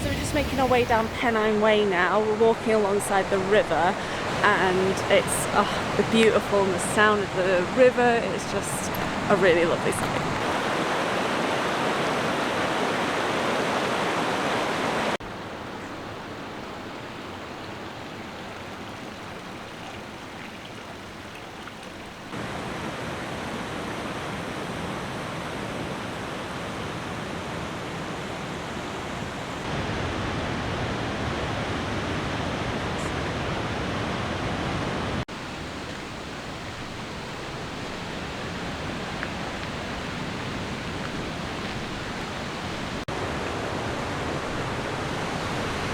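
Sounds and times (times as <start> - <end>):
river rushing: 0.0 - 45.9.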